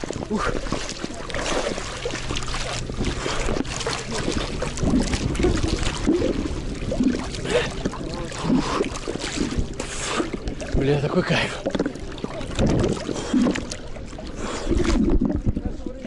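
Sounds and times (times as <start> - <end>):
sea water sloshing and splashing: 0.0 - 16.0.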